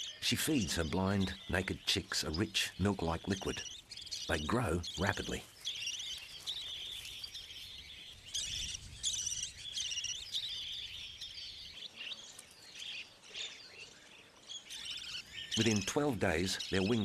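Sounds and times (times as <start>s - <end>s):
budgerigars twittering: 0.0s - 17.0s.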